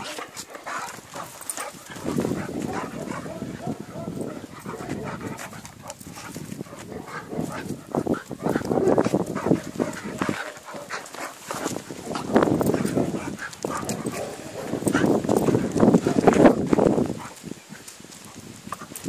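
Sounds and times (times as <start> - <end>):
puppies play-fighting: 0.0 - 18.0.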